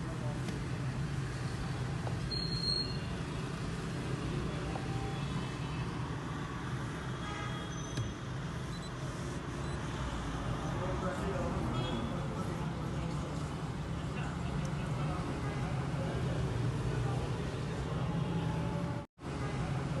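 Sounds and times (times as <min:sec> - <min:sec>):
road vehicles rumbling: 0:00.0 - 0:20.0.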